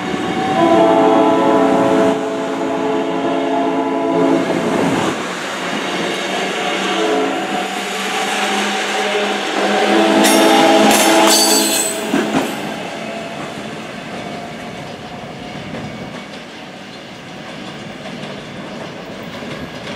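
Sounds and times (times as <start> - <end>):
electric train hum: 0.0 - 19.9
train rolling rumble: 0.0 - 19.9.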